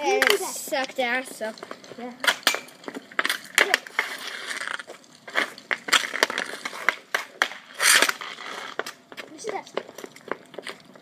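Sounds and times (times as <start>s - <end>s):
hockey stick clacking and scraping: 0.2s - 10.9s.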